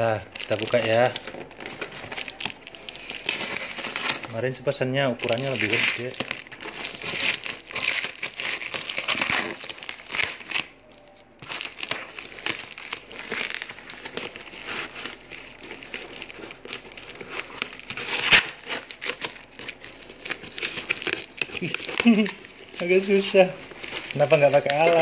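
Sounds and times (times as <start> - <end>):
packing tape and cardboard tearing: 0.3 - 4.4, 5.2 - 25.0.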